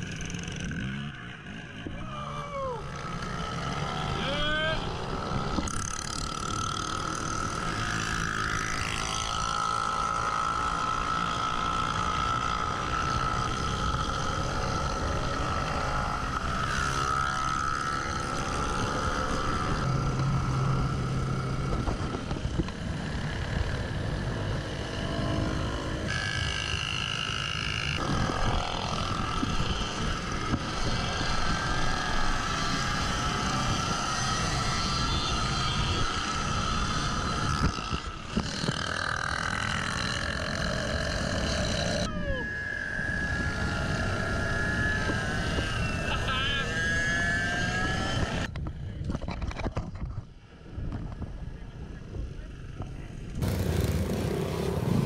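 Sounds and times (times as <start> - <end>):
small motorcycle engines: 0.0 - 55.0.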